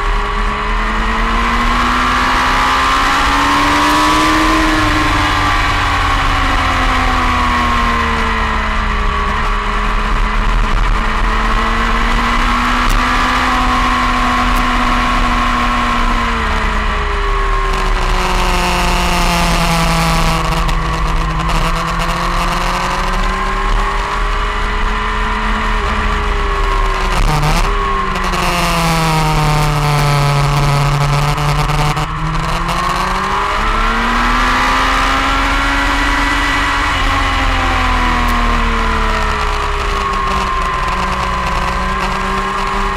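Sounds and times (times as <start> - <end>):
motorcycle engine at speed: 0.0 - 42.9.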